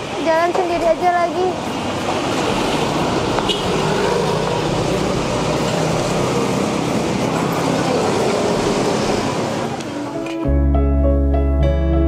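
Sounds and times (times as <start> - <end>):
city street traffic: 0.0 - 10.8.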